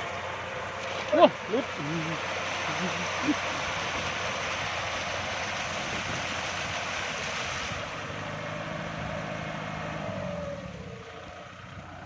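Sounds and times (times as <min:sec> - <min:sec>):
low engine hum: 0:00.0 - 0:12.0
water gushing from pump line: 0:00.0 - 0:12.0.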